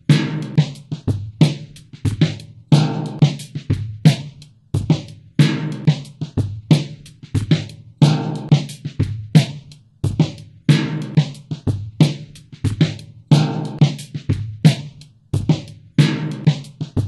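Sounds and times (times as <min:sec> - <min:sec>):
background music with drum beat: 0:00.0 - 0:17.0.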